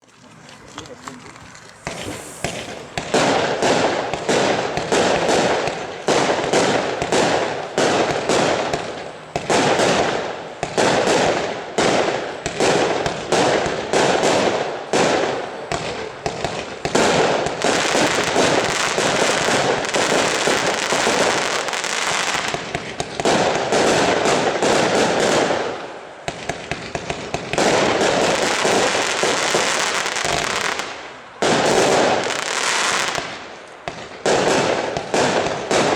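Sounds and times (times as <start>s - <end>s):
fireworks cake firing shots: 1.8s - 35.9s.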